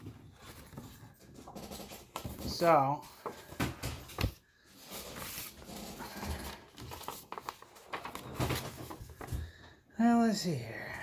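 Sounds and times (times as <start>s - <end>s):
paper rustling and crinkling: 0.0s - 9.6s.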